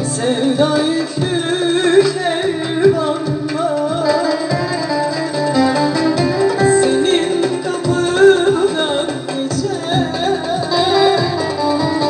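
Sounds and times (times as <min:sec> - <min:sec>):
keyboard: 0:00.0 - 0:12.0
plucked saz: 0:00.0 - 0:12.0
woman singing into a microphone: 0:00.0 - 0:12.0.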